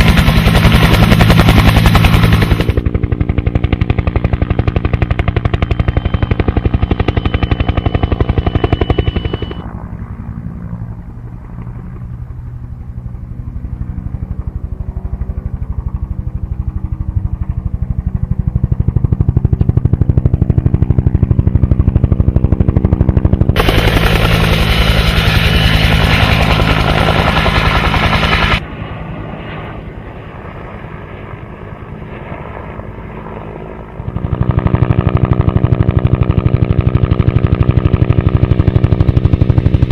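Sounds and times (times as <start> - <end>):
aircraft engine pulsing drone: 0.0 - 39.9.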